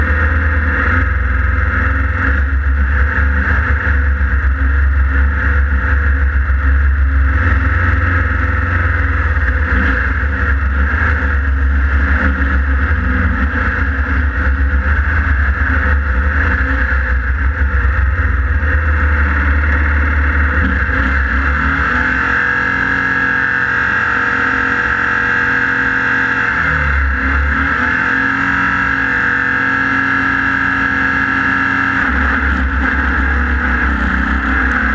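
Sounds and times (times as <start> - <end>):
race car engine running hard: 0.0 - 34.9.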